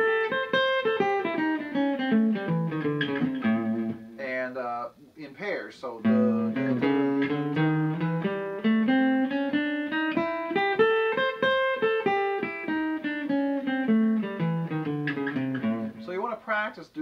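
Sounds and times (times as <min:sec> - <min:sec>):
acoustic guitar picking a scale: 0:00.0 - 0:05.0, 0:05.6 - 0:16.7.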